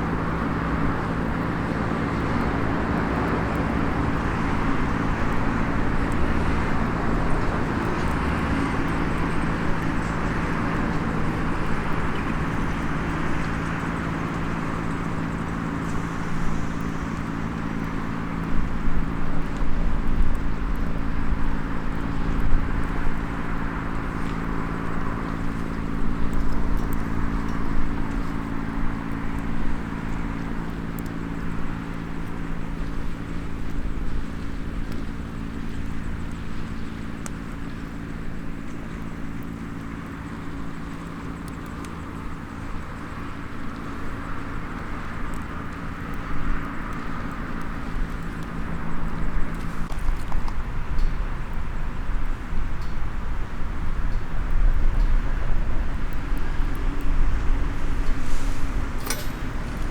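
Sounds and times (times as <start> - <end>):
low mechanical hum: 0.0 - 59.9
wood fire crackling: 0.0 - 59.9.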